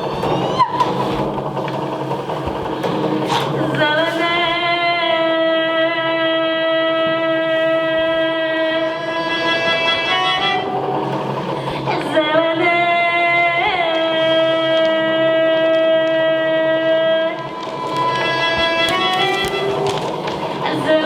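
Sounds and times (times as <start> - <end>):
dense droning texture: 0.0 - 21.0.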